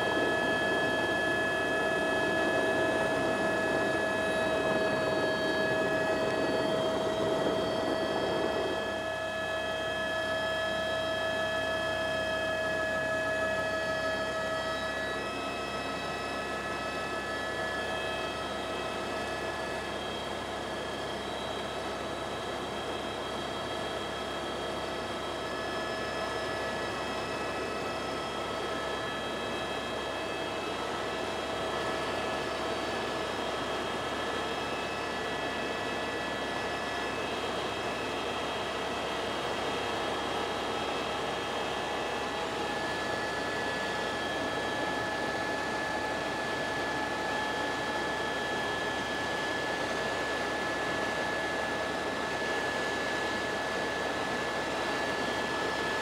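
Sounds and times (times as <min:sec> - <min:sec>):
helicopter engine and rotor noise: 0:00.0 - 0:56.0
steady whining tones: 0:00.0 - 0:56.0.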